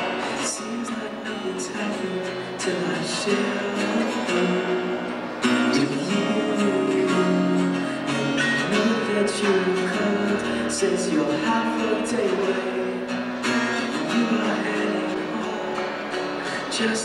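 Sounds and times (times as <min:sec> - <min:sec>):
guitars strumming chords: 0:00.0 - 0:17.0.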